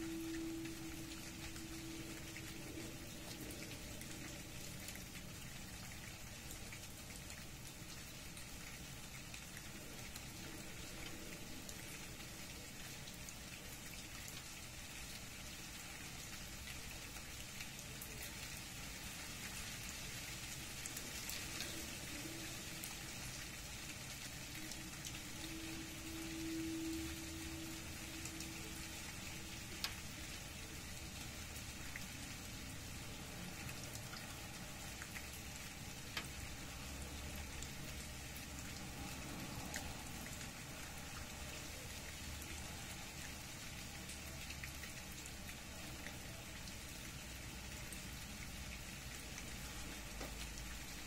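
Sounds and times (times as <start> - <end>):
low steady hum: 0.0 - 51.0
rain falling: 0.0 - 51.0.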